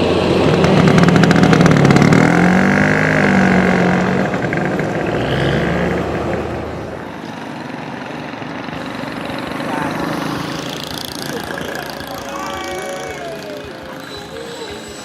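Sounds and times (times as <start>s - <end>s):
scooter engine running: 0.0s - 15.0s.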